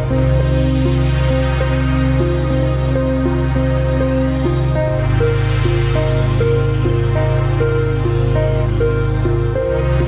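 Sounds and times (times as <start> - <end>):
sustained synth bass: 0.0 - 10.0.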